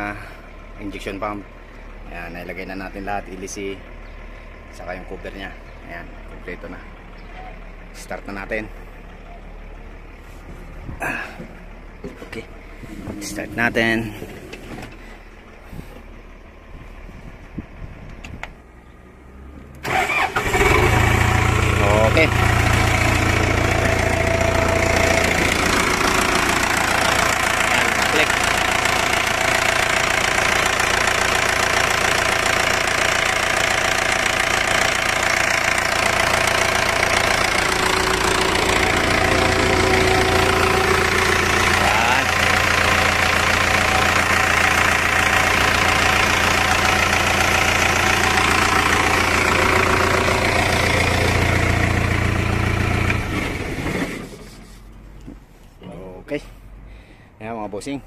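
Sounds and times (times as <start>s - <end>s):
diesel engine starting: 0.0s - 57.4s.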